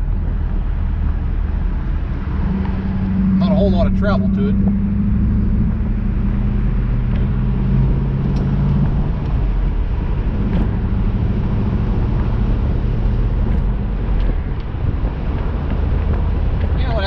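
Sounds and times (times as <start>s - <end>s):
car engine running: 0.0s - 17.0s
road and wind noise: 0.0s - 17.0s.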